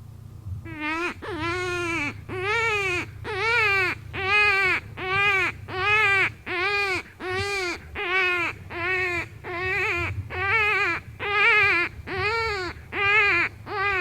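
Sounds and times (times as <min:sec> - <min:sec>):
high wailing predator call: 0:00.7 - 0:14.0.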